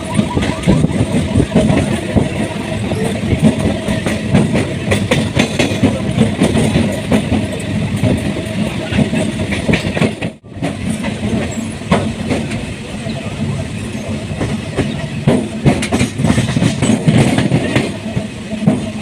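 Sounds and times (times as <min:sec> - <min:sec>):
train wheels clattering over rails: 0:00.0 - 0:19.0.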